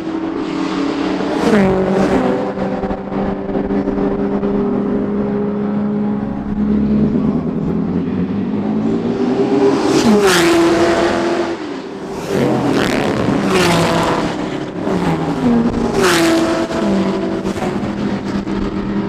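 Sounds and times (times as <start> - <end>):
racing cars passing at speed: 0.0 - 19.0.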